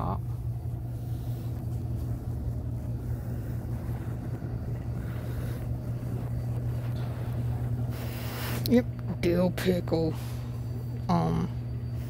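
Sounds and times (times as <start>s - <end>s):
faint rumble: 0.0s - 12.0s
low electrical hum: 0.0s - 12.0s.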